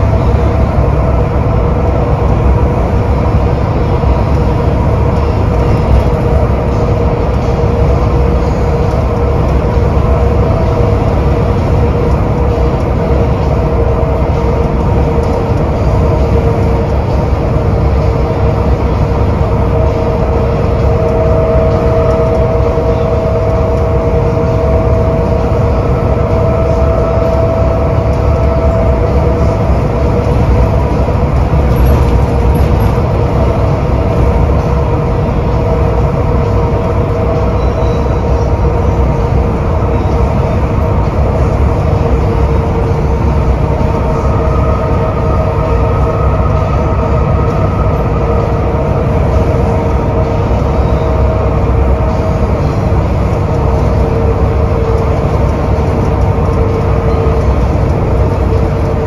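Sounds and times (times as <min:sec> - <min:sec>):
bus diesel engine rumble: 0:00.0 - 0:59.0
road noise: 0:00.0 - 0:59.0
steady whine: 0:00.0 - 0:59.0.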